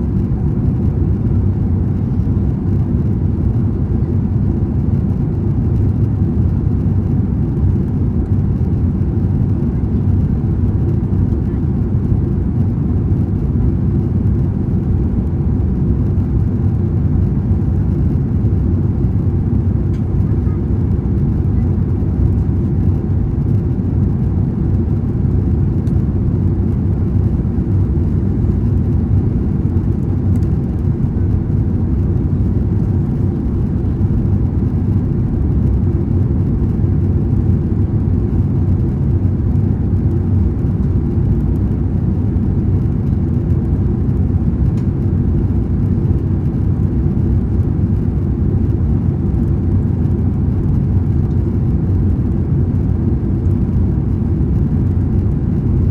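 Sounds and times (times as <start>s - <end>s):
airliner cabin drone: 0.0s - 55.9s.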